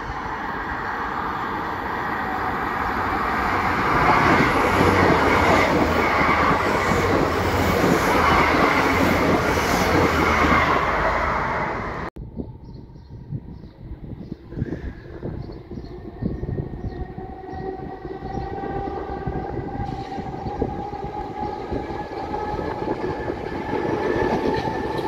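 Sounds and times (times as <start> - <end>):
train wheels rumbling on rail: 0.0 - 12.6, 14.1 - 25.0.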